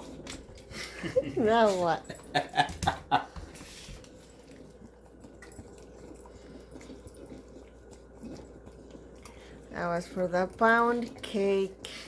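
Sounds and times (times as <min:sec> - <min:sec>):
puppy licking: 0:00.0 - 0:12.0.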